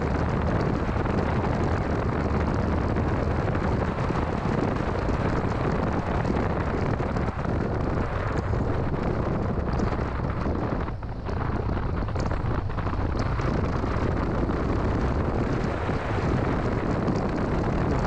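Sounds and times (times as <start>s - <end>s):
car road and engine rumble: 0.0s - 18.0s
wind buffeting microphone: 0.0s - 18.0s.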